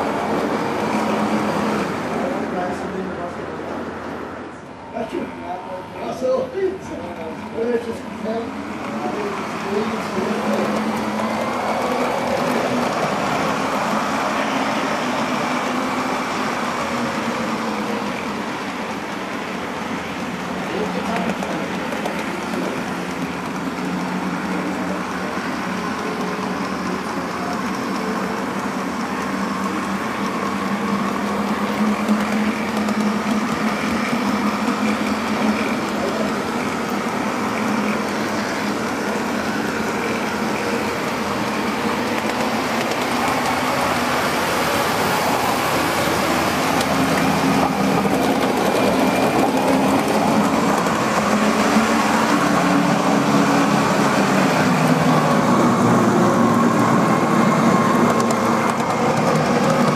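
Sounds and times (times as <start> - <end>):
model train running on track: 0.0 - 59.9.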